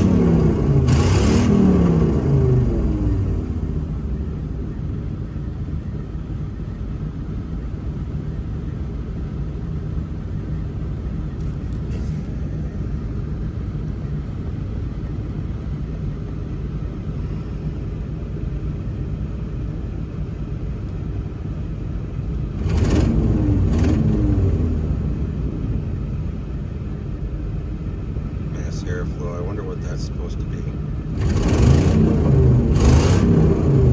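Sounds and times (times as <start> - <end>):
road noise: 0.0 - 33.9
truck engine driving: 0.0 - 33.9.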